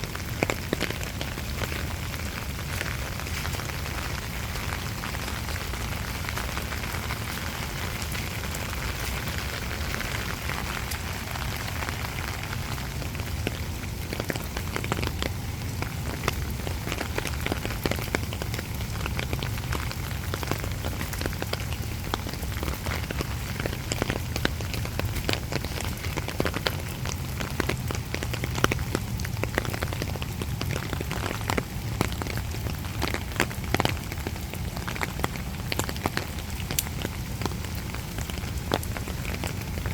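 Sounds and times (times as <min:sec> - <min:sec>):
rain drops tapping hard surface: 0:00.0 - 0:39.9.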